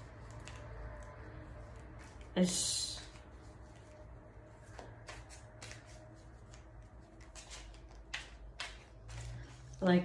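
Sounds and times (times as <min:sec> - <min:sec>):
cards being shuffled: 0:00.1 - 0:10.0.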